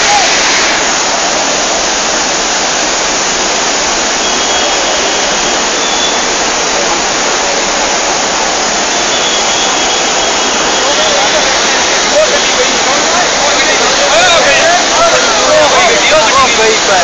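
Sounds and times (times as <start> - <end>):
floodwater rushing in river: 0.0 - 17.0.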